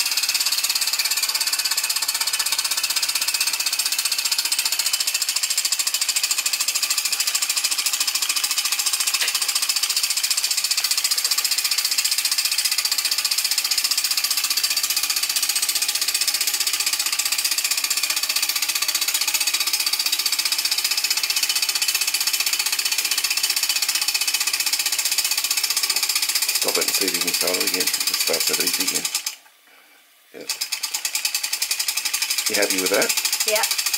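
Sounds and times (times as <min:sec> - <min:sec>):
model steam engine clattering: 0:03.8 - 0:15.4, 0:16.0 - 0:29.4, 0:30.5 - 0:33.9.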